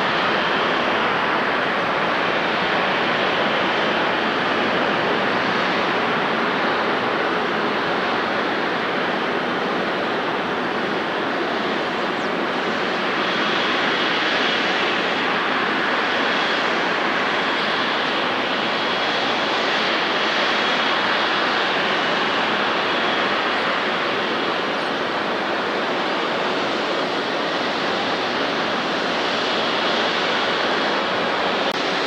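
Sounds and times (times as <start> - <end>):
jet engines rushing: 0.0 - 32.0.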